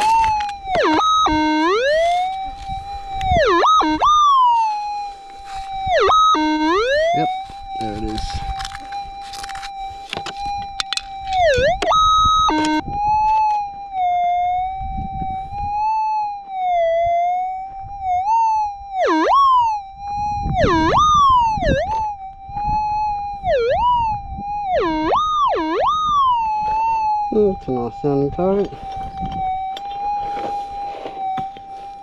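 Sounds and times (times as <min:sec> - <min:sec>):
stepped beep: 0:00.0 - 0:02.2, 0:03.2 - 0:17.3, 0:18.0 - 0:32.0
metal detector threshold tone: 0:00.0 - 0:32.0
metal detector warbling response: 0:00.0 - 0:32.0.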